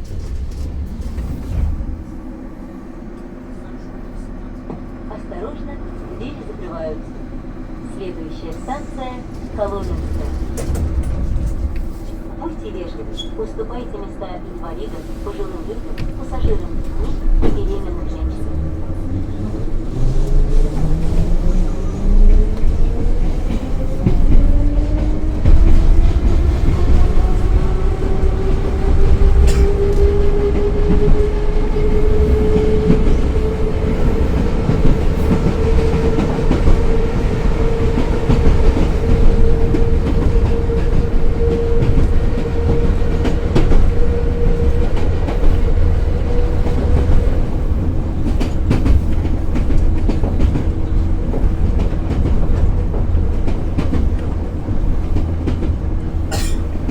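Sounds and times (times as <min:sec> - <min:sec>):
train rumble: 0:00.0 - 0:56.9.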